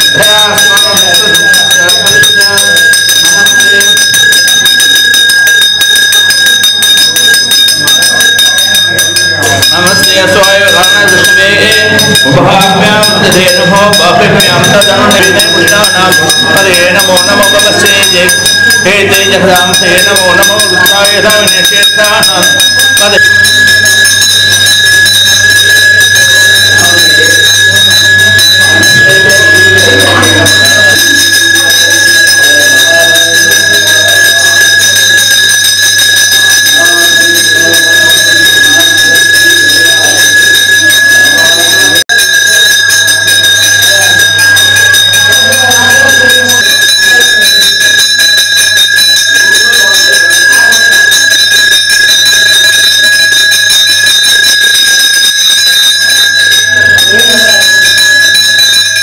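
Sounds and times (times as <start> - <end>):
brass hand bell ringing: 0.0 - 59.0
people's voices: 0.0 - 59.0.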